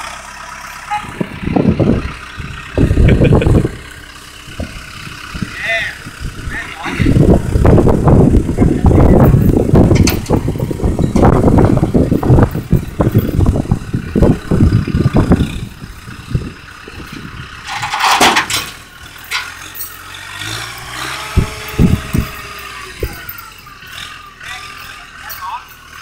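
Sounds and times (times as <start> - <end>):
vehicle engine running rough: 0.0 - 26.0.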